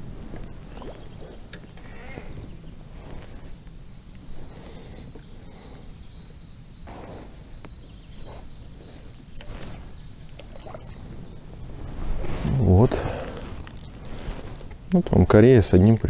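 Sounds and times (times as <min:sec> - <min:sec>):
low wind rumble: 0:00.0 - 0:16.0
small bird chirping: 0:00.3 - 0:15.0.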